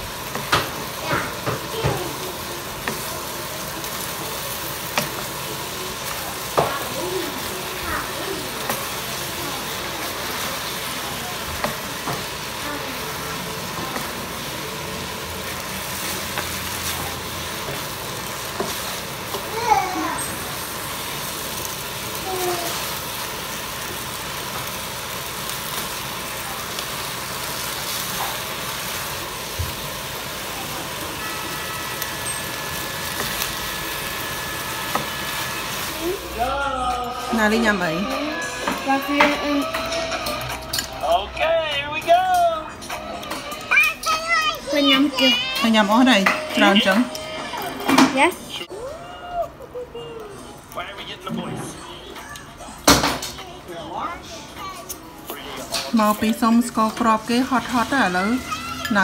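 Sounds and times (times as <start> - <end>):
noodles sizzling in a pan: 0.0 - 42.6, 43.2 - 51.2, 52.4 - 59.0.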